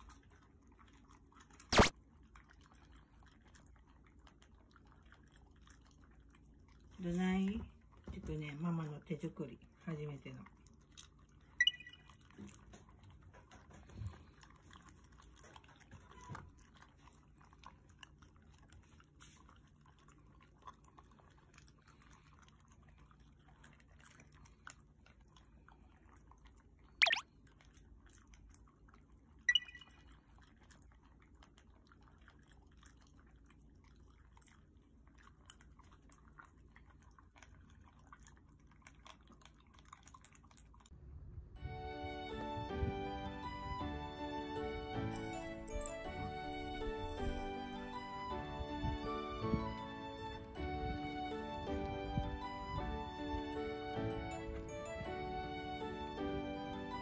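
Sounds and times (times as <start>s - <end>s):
dogs chewing and lapping: 0.0s - 57.0s.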